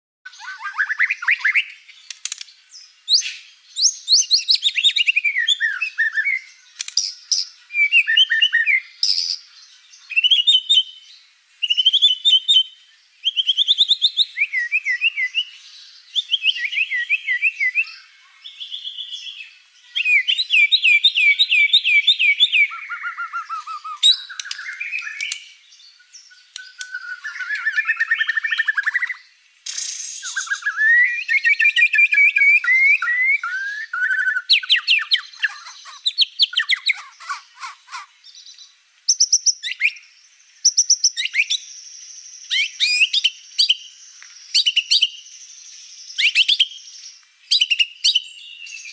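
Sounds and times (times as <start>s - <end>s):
bird singing whistled phrases: 0.3s - 2.4s, 3.0s - 38.1s, 39.1s - 41.7s, 42.5s - 43.9s, 44.5s - 45.2s, 46.1s - 48.9s.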